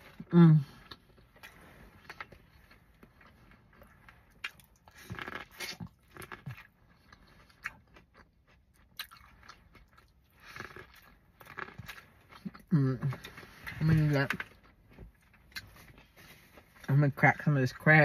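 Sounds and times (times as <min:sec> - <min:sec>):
person chewing corn on the cob: 0:00.0 - 0:16.9.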